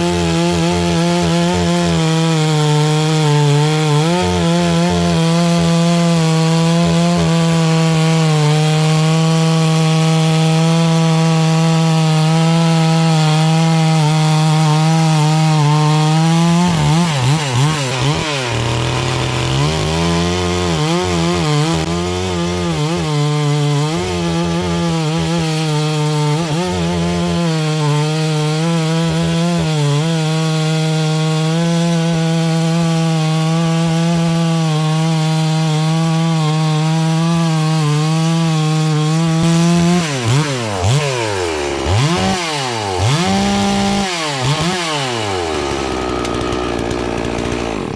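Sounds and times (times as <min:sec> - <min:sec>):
chainsaw sawing wood: 0:00.0 - 0:47.9.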